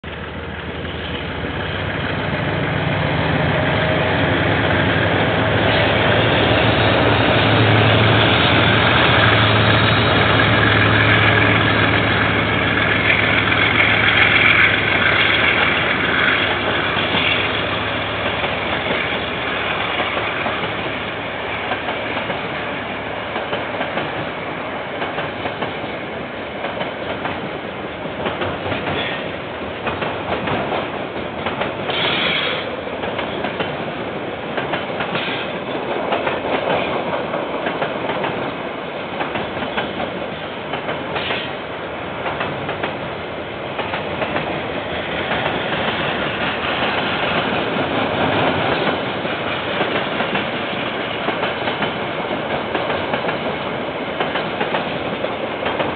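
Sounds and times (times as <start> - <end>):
diesel locomotive engine drone: 0.0 - 55.9
wagons rumbling over rail joints: 0.0 - 55.9.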